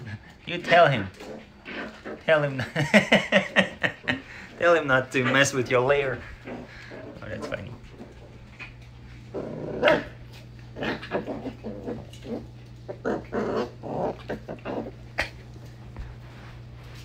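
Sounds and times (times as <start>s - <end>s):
dog growling: 0.0s - 15.5s.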